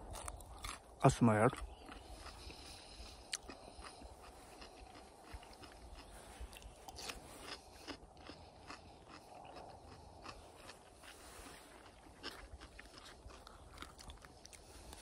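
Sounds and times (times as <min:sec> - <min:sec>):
person chewing cucumber: 0:00.0 - 0:15.0.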